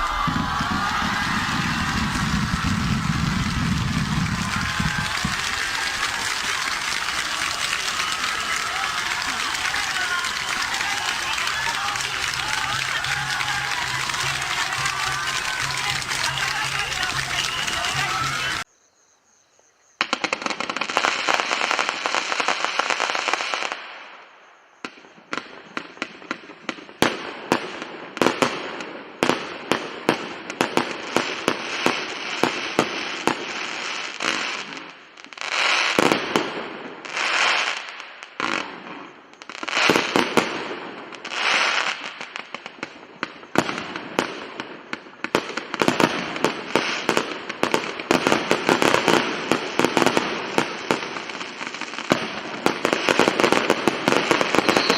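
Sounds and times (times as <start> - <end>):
fireworks bangs: 0.0 - 18.7, 20.0 - 54.9
fireworks crackling: 0.0 - 18.7, 20.0 - 54.9.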